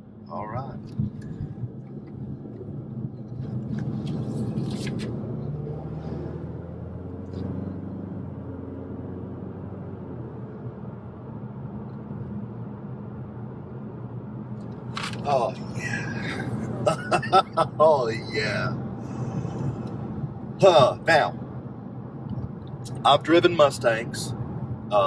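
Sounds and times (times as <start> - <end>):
car engine: 0.0 - 25.0
road noise: 0.0 - 25.0.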